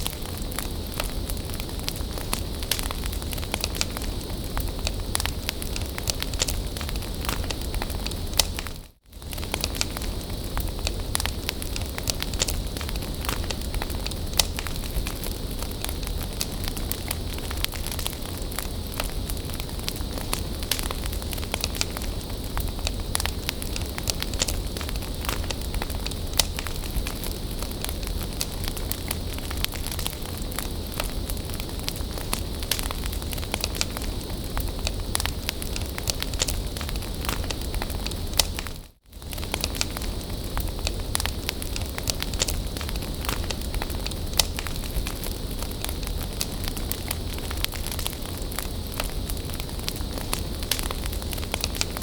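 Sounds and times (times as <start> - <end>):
bonfire crackling and popping: 0.0 - 52.0
fire rumble: 0.0 - 52.0.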